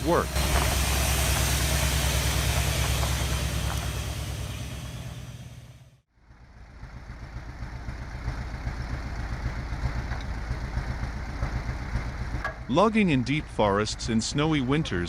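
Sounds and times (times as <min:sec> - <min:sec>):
diesel engine throbbing: 0:00.0 - 0:15.0.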